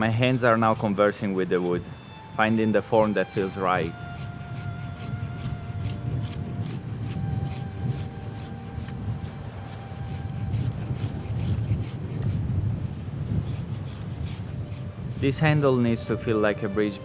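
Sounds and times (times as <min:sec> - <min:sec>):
hand tool rasping wood: 0:00.0 - 0:17.0.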